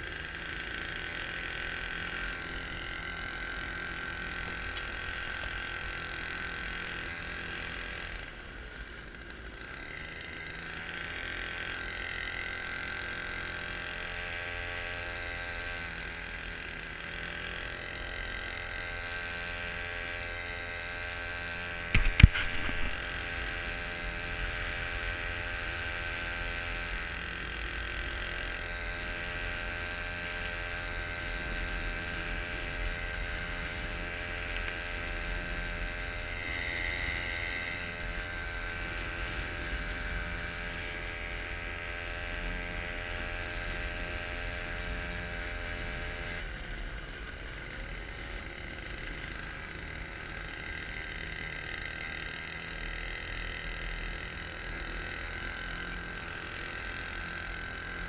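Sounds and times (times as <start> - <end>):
small motor whining: 0.0 - 58.0.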